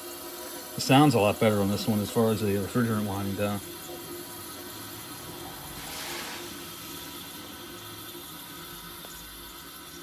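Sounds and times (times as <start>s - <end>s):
refrigerant hissing: 0.7s - 9.4s.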